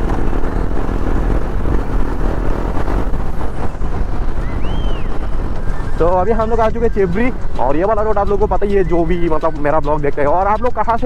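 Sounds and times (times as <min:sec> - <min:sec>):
rising and falling tone: 0:00.0 - 0:09.9
motorcycle engine: 0:00.0 - 0:10.4
wind rumble: 0:00.0 - 0:11.0.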